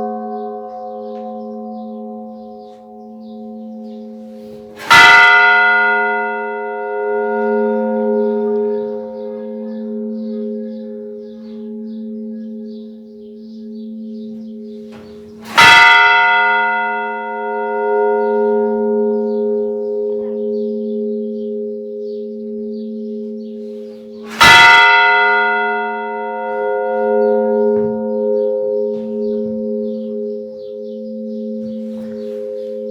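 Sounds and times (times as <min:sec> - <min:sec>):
church bell tolling: 0:00.0 - 0:32.9.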